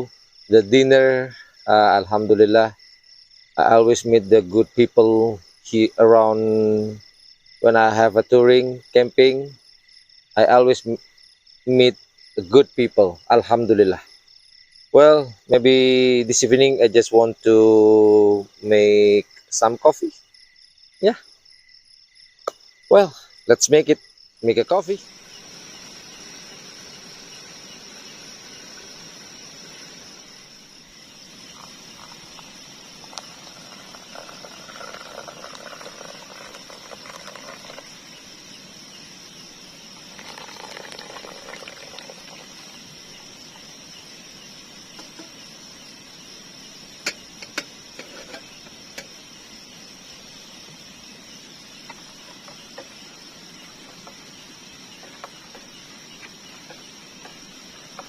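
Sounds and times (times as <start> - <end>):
insect chorus chirring: 0.0 - 58.0.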